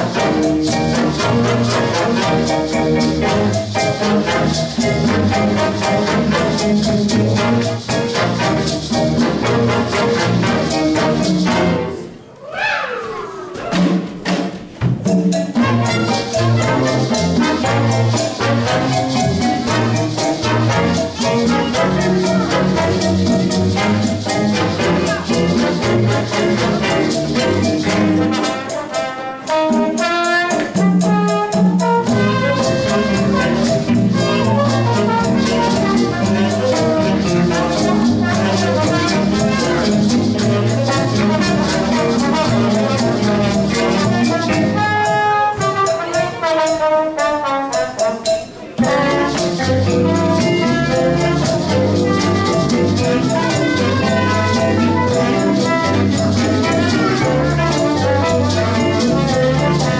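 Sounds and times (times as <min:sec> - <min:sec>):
jazz big band playing swing: 0:00.0 - 0:59.9.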